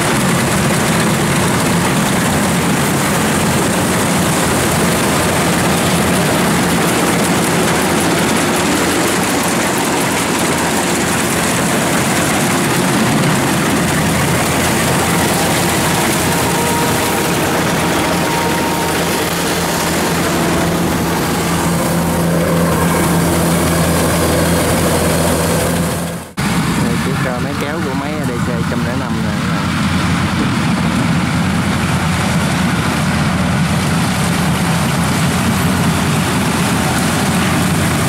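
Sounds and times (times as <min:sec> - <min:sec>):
combine harvester engine hum: 0:00.0 - 0:38.0
machinery clattering: 0:00.0 - 0:38.0.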